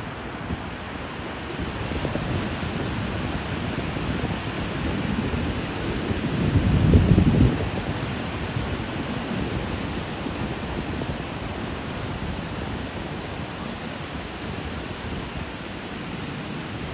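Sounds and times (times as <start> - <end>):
steady wash of surf: 0.0 - 16.9.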